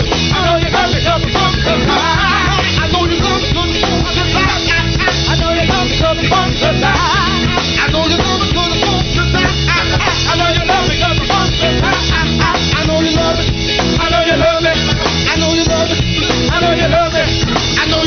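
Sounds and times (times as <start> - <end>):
funk band playing: 0.0 - 18.0.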